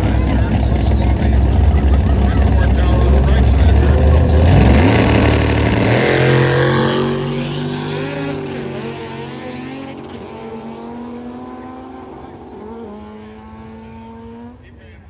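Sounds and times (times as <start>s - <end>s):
drag racing cars accelerating: 0.0s - 15.0s.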